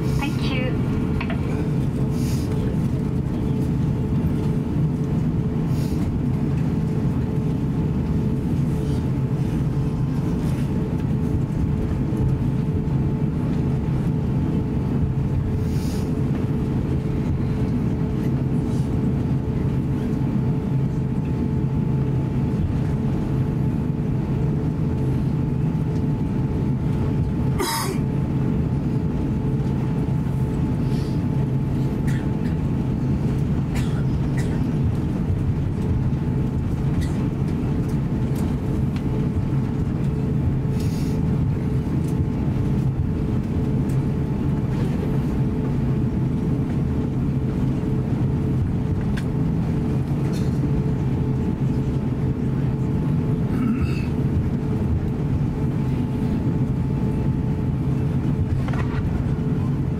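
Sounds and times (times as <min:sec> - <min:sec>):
airplane cabin rumble and hum: 0:00.0 - 0:59.9
steady whine: 0:00.0 - 0:59.9.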